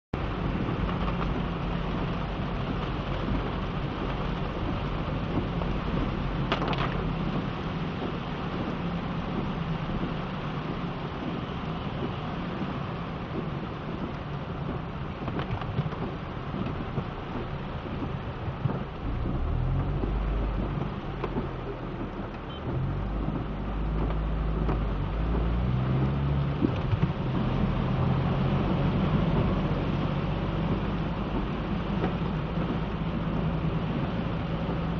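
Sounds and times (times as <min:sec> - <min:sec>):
hum of motor vehicles: 0:00.2 - 0:34.9
low rumble: 0:00.2 - 0:34.9
rain falling: 0:00.2 - 0:34.9.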